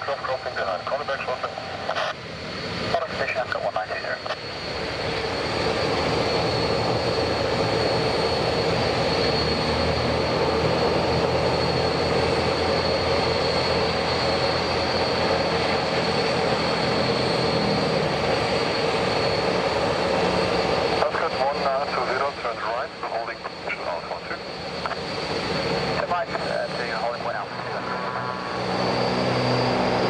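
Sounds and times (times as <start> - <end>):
jet engines idling with whine: 0.0 - 30.0.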